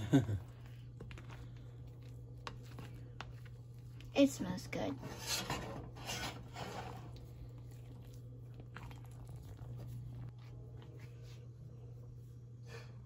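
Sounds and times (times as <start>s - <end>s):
low steady hum: 0.0s - 13.0s
spatula squishing whipped mixture: 0.4s - 12.6s.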